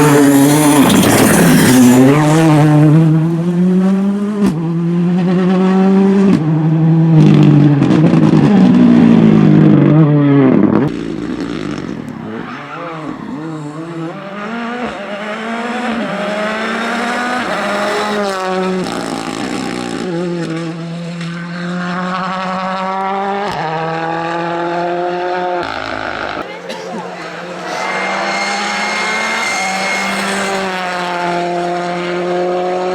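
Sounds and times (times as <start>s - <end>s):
rally car engine at full throttle: 0.0s - 32.9s.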